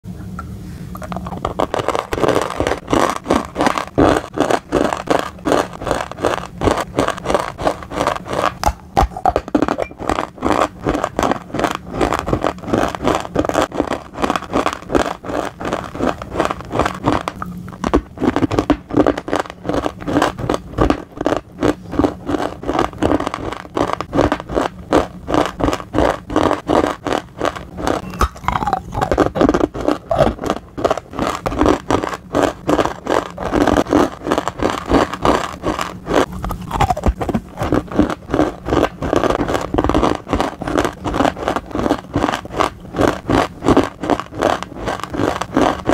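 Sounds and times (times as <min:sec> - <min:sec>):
chewing gritty crunches: 0:01.0 - 0:45.9.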